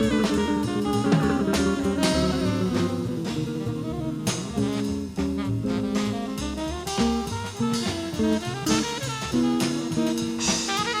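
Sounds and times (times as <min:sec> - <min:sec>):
drums keeping a beat: 0:00.0 - 0:11.0
jazz band playing: 0:00.0 - 0:11.0.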